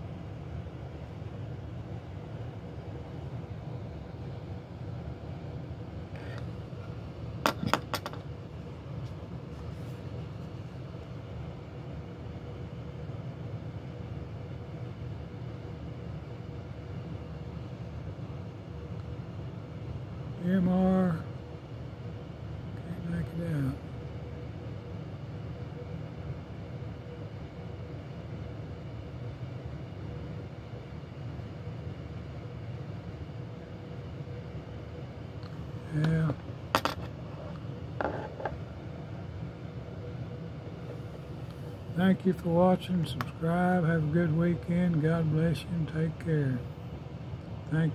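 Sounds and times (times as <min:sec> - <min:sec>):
faint constant whine: 0:00.0 - 0:47.9
faint steady tone: 0:00.0 - 0:47.9
machine humming: 0:00.0 - 0:47.9.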